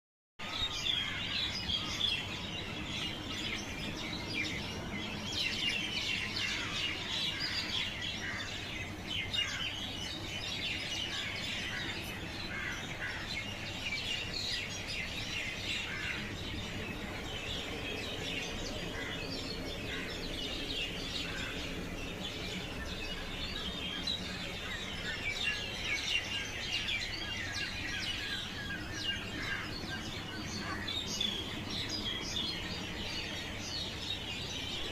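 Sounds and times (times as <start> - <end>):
birds chirping: 0.4 - 34.9.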